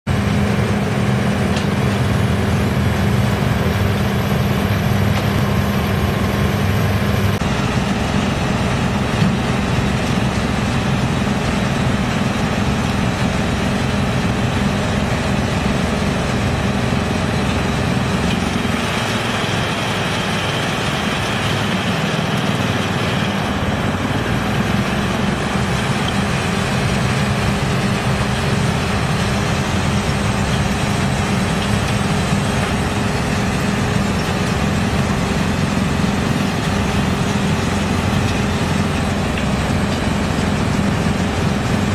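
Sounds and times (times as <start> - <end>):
wood chipper running: 0.1 - 41.9.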